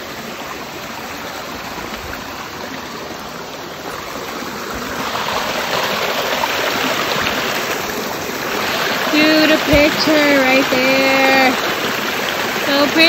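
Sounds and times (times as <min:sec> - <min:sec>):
creek rushing over rocks: 0:00.0 - 0:13.0.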